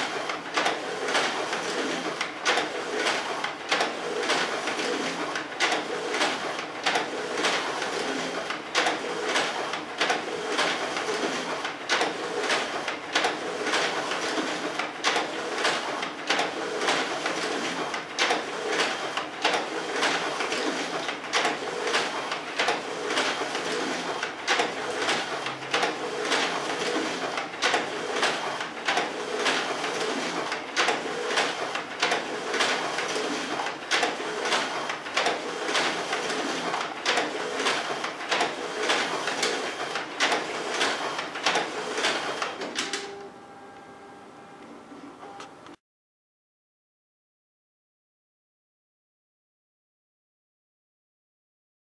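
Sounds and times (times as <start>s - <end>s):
rhythmic clicks and paper rushes: 0.0s - 43.2s
document feeders running: 0.0s - 43.3s.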